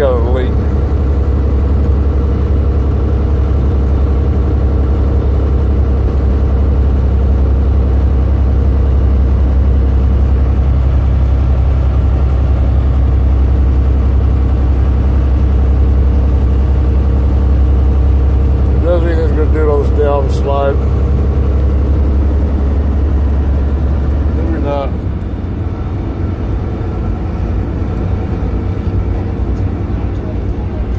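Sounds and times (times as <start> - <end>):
truck diesel engine drone: 0.0 - 30.9.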